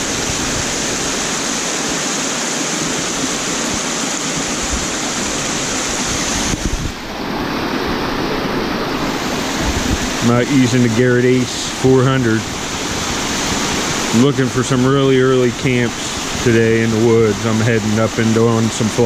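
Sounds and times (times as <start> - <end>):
creek rushing over stones: 0.0 - 19.0.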